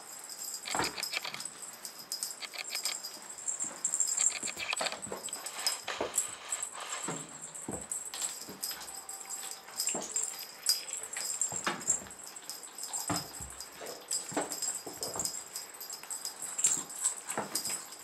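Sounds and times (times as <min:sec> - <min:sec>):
kitten scratching and rustling: 0:02.3 - 0:18.0.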